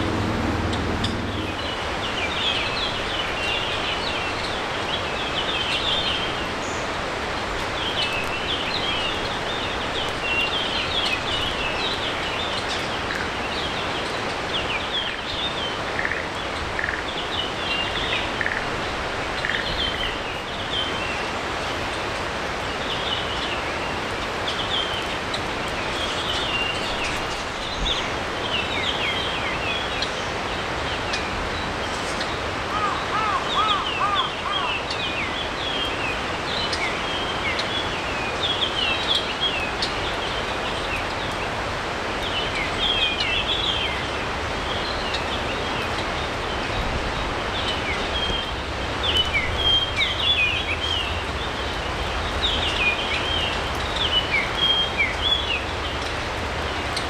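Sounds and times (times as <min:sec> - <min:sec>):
birds chirping: 0:00.0 - 0:22.1, 0:22.7 - 0:57.0
steady background hiss: 0:00.0 - 0:57.0.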